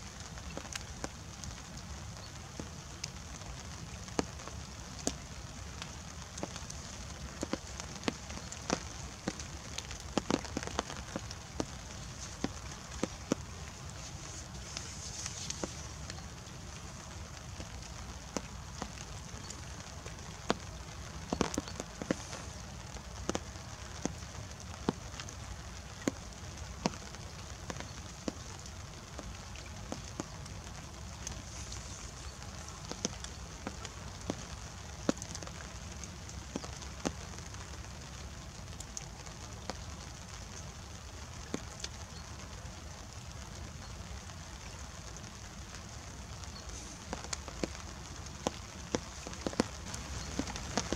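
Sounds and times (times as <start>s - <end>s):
raindrops tapping: 0.0s - 50.9s
soft hiss: 0.0s - 50.9s.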